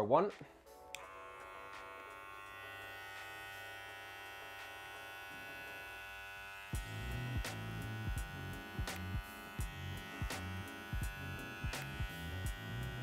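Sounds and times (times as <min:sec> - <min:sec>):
hair clipper running: 0:00.8 - 0:13.0.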